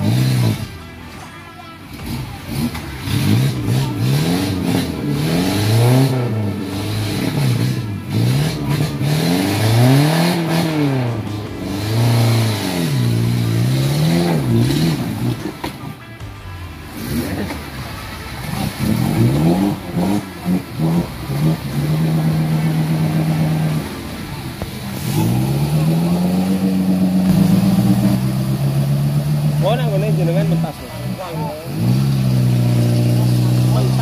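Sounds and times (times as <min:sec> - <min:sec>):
engine revving up and down: 0:00.0 - 0:00.8, 0:01.9 - 0:15.8, 0:16.9 - 0:34.0.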